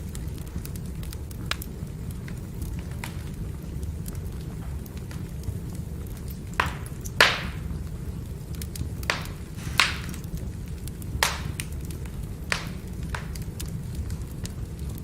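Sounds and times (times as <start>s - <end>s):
low rumble of fire: 0.0s - 15.0s
firewood crackling pops: 0.1s - 15.0s.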